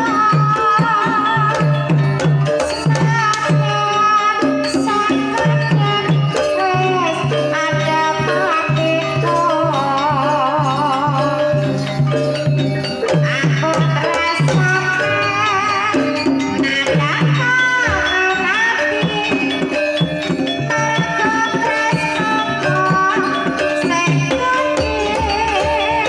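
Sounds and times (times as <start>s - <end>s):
gamelan music: 0.0s - 26.0s
high wavering melodic line: 0.0s - 26.0s.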